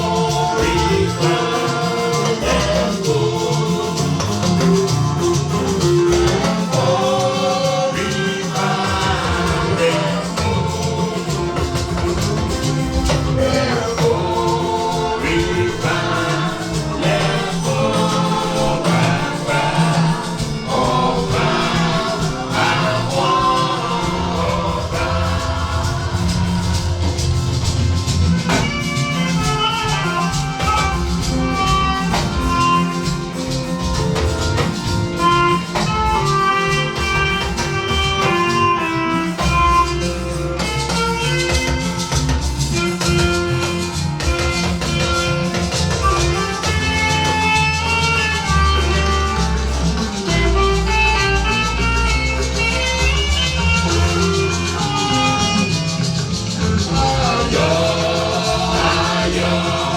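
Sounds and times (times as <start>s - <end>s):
choir and congregation singing hymn: 0.0s - 51.2s, 52.4s - 59.9s
instrumental accompaniment: 0.0s - 59.9s
steady percussion: 0.0s - 59.9s.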